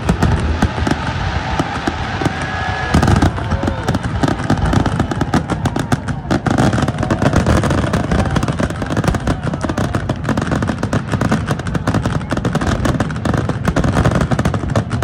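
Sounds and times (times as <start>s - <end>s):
fireworks booming and crackling: 0.0s - 15.0s.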